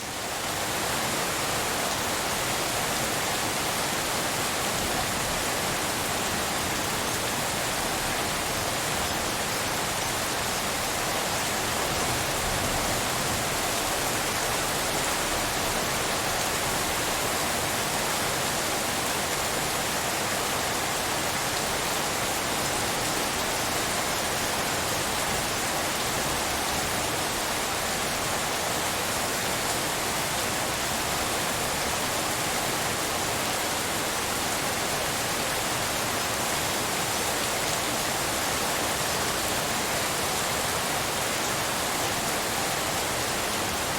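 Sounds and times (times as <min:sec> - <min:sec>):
rain hiss: 0:00.0 - 0:43.9.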